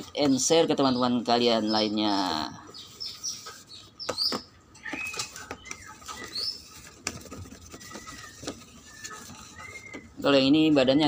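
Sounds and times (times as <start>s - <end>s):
bird chirps: 0.0s - 11.0s
hand handling plastic tubs: 0.0s - 11.0s.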